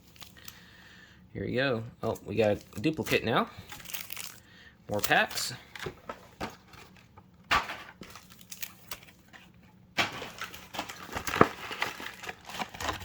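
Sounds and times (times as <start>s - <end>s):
foil wrappers crinkling: 0.0s - 0.7s, 2.0s - 13.0s.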